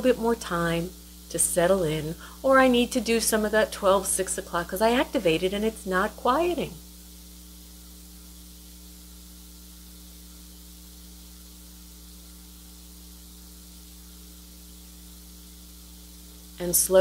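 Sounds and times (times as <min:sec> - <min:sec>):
electrical mains hum: 0:00.0 - 0:17.0
faint hiss: 0:00.0 - 0:17.0.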